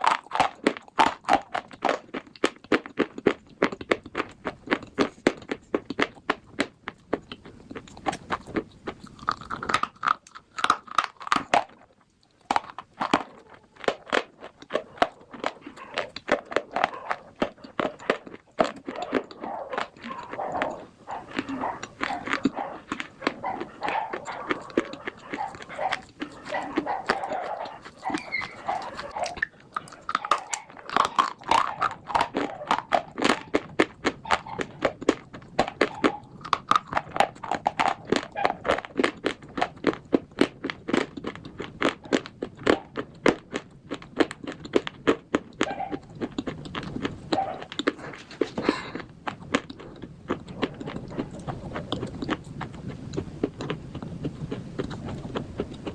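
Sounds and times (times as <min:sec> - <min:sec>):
crisp crunching chewing: 0:00.0 - 0:55.9.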